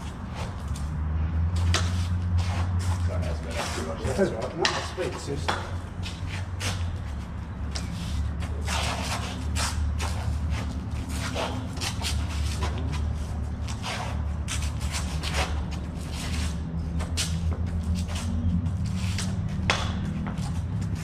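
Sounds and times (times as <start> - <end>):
knocks and scuffs of sparring: 0.0 - 21.0
steady low rumble: 0.0 - 21.0.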